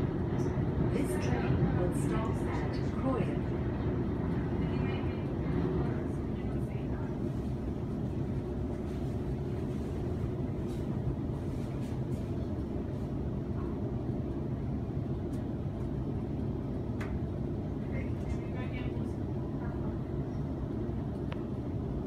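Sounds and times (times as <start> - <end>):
train low rumble inside carriage: 0.0 - 22.0.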